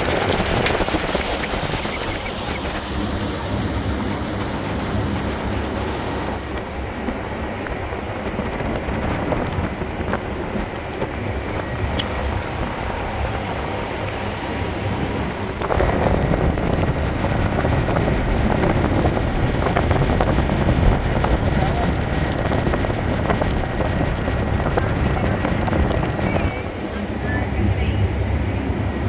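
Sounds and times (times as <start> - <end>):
water against hull: 0.0 - 29.0
wind on microphone: 0.0 - 29.0.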